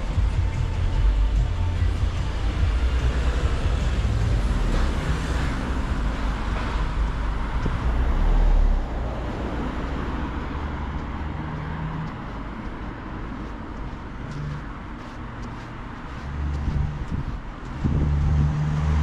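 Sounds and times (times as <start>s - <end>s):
motor vehicles rumbling: 0.0s - 19.0s
traffic hum: 0.0s - 19.0s.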